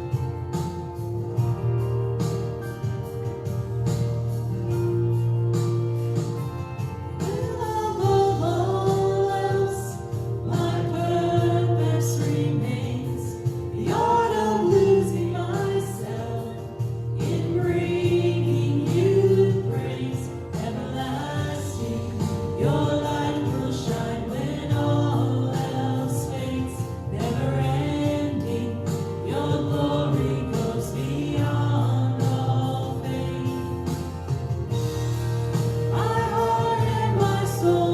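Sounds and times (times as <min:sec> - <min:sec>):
instrumental backing with bass: 0:00.0 - 0:37.9
voices singing worship song: 0:06.4 - 0:37.9.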